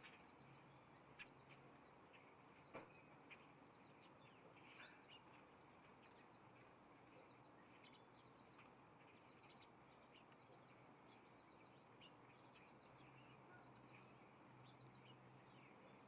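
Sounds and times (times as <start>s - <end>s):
faint birds chirping: 0.0s - 16.0s
steady low hiss: 0.0s - 16.0s.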